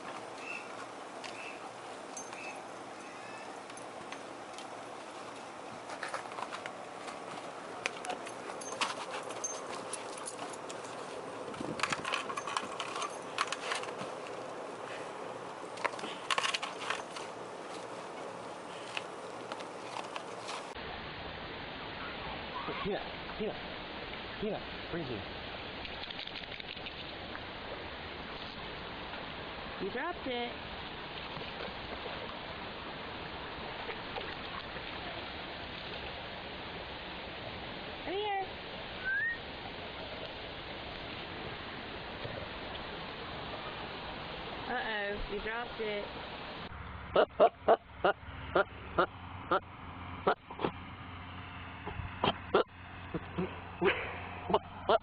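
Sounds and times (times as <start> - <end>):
creek flowing over rocks: 0.0 - 12.4, 13.1 - 21.1, 21.7 - 46.8
background hiss: 0.0 - 50.4.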